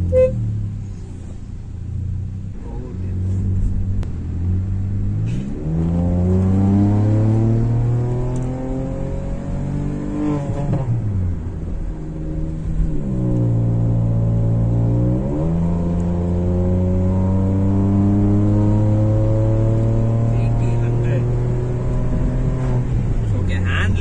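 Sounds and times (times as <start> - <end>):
car engine drone from cabin: 0.0 - 24.0.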